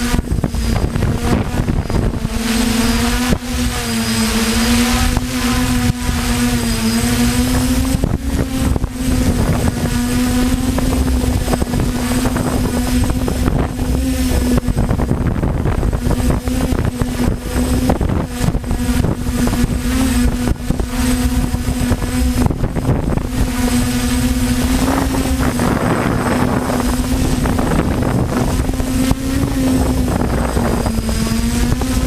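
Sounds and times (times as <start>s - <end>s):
drone motors and propellers droning: 0.0s - 32.0s
wind buffeting microphone: 0.0s - 32.0s.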